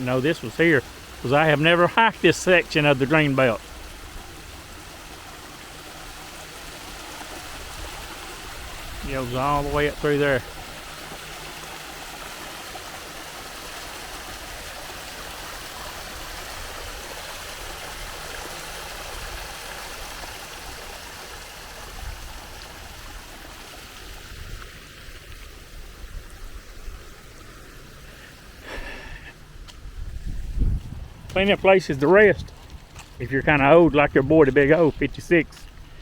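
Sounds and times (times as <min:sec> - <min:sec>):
small stream running: 0:00.0 - 0:36.0.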